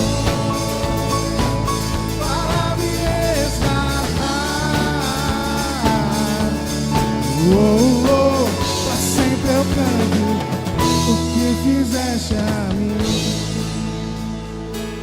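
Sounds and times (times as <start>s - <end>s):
person singing: 0.0s - 14.4s
drum kit: 0.0s - 15.0s
guitar: 0.0s - 15.0s
rock worship band: 0.0s - 15.0s.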